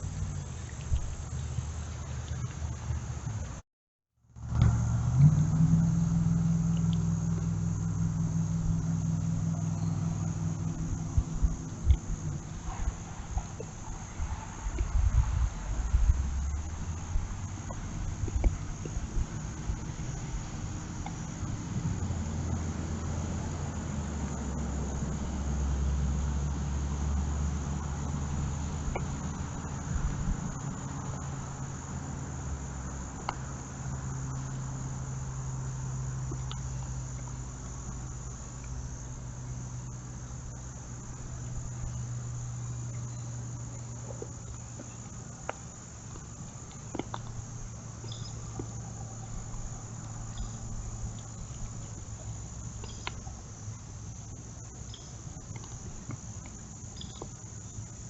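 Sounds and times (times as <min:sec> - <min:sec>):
crickets chirping: 0:00.0 - 0:03.6, 0:04.3 - 0:58.0
low hum: 0:04.2 - 0:58.0.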